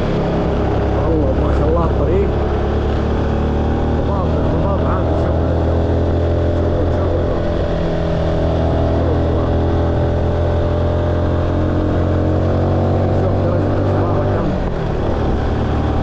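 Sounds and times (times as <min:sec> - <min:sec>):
car engine droning: 0:00.0 - 0:16.0
road noise: 0:00.0 - 0:16.0.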